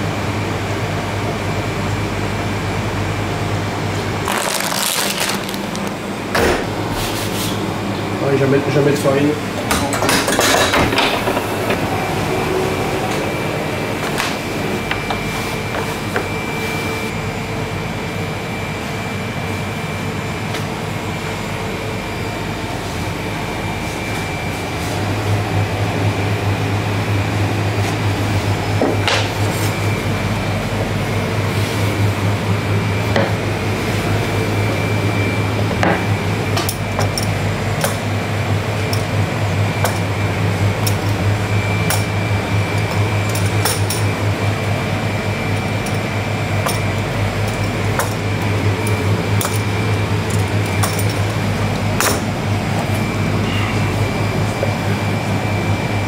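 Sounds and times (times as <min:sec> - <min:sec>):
machine starting with low hum: 0:00.0 - 0:56.0
machinery humming: 0:00.0 - 0:56.0.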